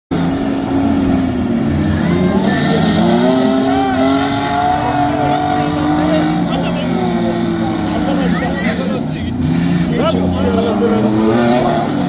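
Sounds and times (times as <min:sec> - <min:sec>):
off-road vehicle engines revving: 0:00.1 - 0:12.0.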